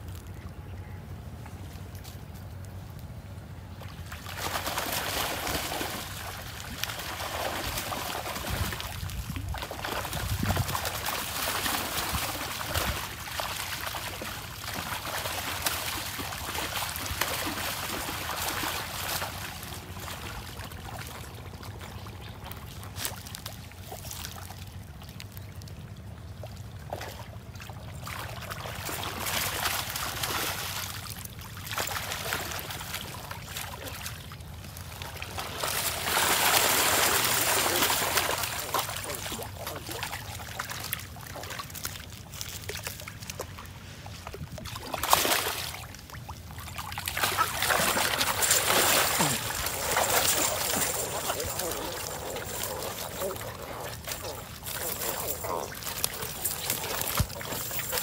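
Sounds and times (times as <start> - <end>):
water splashing off a net: 3.9 - 21.2, 28.0 - 58.0.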